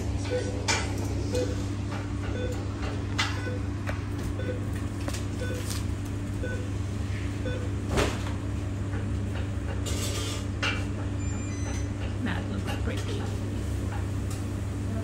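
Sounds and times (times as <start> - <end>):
low hum of kitchen machines: 0.0 - 15.0.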